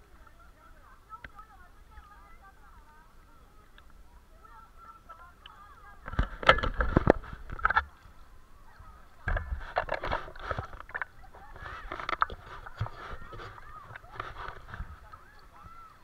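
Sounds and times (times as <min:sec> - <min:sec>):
kayak paddle splashing water: 0:00.0 - 0:16.0.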